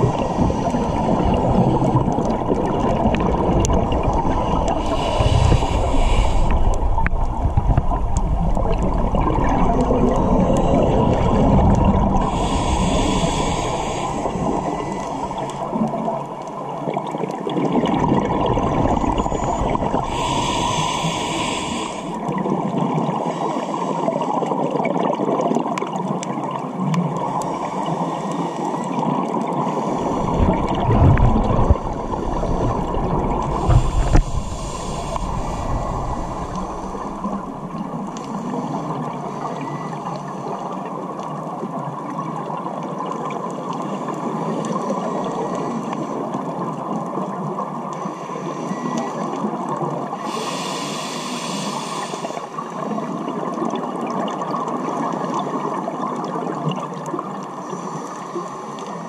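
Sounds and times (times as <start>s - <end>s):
regulator bubbles gurgling: 0.0s - 57.9s
underwater water rushing: 0.0s - 59.0s.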